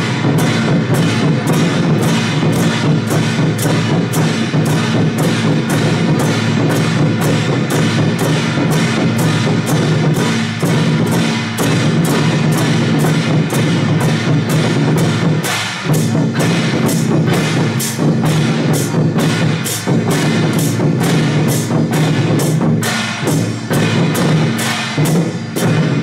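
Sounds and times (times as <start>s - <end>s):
barrel drums beating: 0.0s - 26.0s
hand cymbals: 0.0s - 26.0s.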